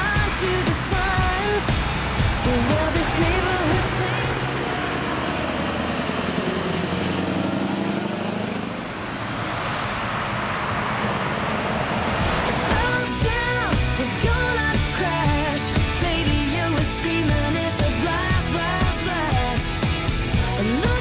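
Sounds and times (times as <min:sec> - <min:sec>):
truck engine passing by: 0:00.0 - 0:21.0.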